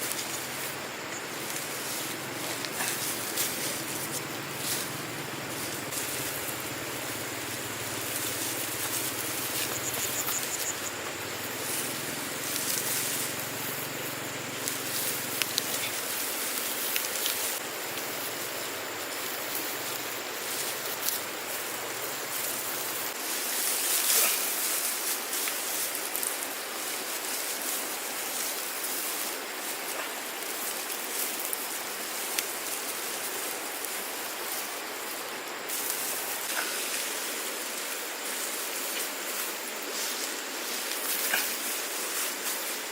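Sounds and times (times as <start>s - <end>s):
steady outdoor hiss: 0.0s - 42.9s.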